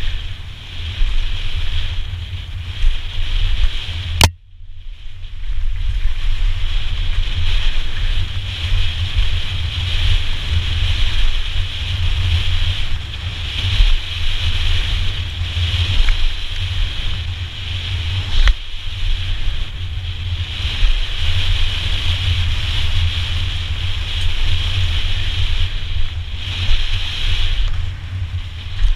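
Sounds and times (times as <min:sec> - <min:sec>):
bike tyre rumble: 0:00.0 - 0:28.9
wind buffeting microphone: 0:00.0 - 0:28.9.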